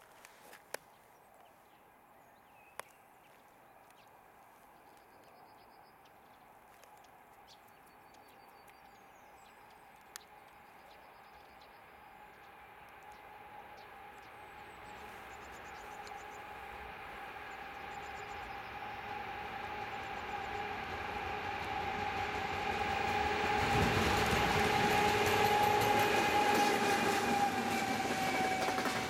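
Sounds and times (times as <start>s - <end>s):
distant train approaching: 4.1s - 29.0s.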